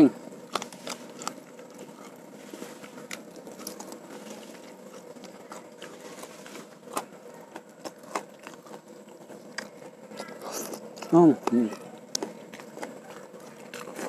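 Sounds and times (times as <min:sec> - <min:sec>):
man chewing food: 0:00.1 - 0:14.0.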